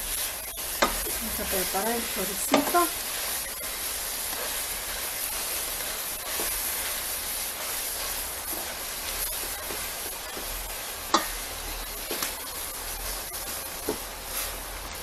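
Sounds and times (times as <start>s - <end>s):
sausage sizzling in a pot: 0.0s - 15.0s.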